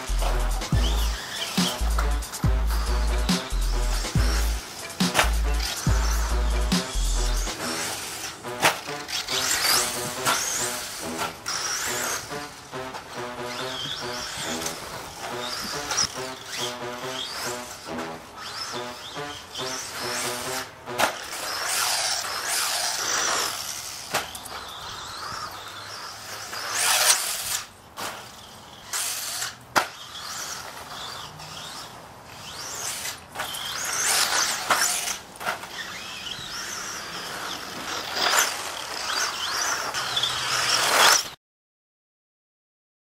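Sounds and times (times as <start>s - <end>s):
radio-controlled car motor whining: 0.8s - 3.2s, 4.2s - 12.6s, 13.5s - 41.4s.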